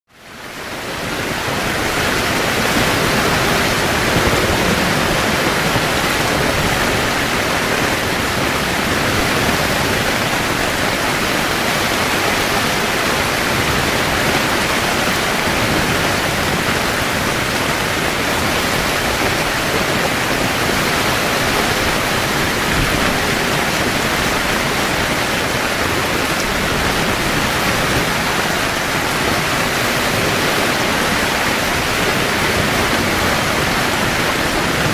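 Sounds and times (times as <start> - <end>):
heavy rain on a tent: 0.1 - 34.9.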